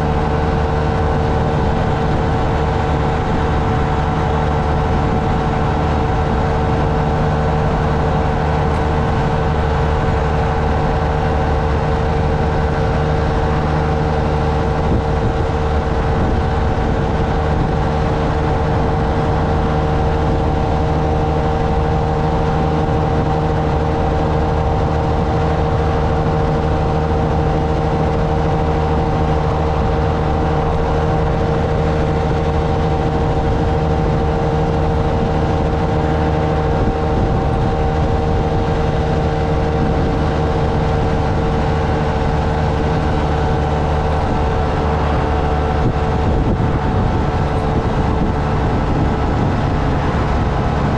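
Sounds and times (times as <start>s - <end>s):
small motorcycle engine running: 0.0s - 50.9s
wind and road noise: 0.0s - 50.9s.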